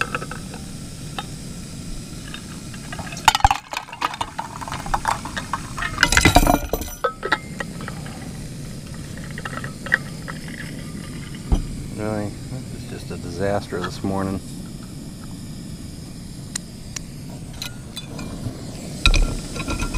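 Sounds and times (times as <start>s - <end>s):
camp stove hissing: 0.0s - 19.9s.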